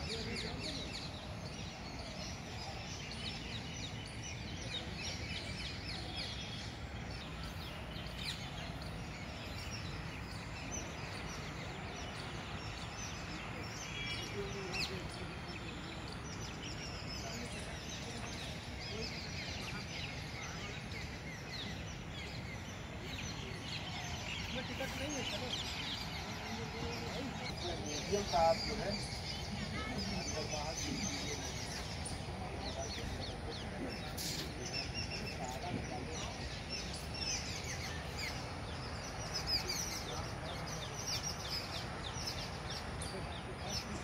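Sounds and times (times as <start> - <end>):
birds chirping and calling: 0.0 - 44.0
steady low background noise: 0.0 - 44.0.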